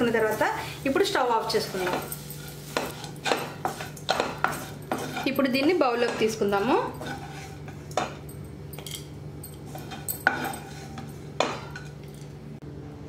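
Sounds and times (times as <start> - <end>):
spatula scraping frying pan: 0.0 - 8.3, 9.6 - 12.0.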